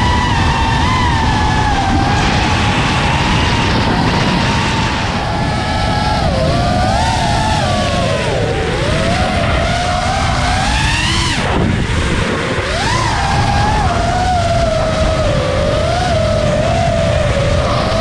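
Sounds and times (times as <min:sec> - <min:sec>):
drone motors whining: 0:00.0 - 0:18.0
wind rumble: 0:00.0 - 0:18.0.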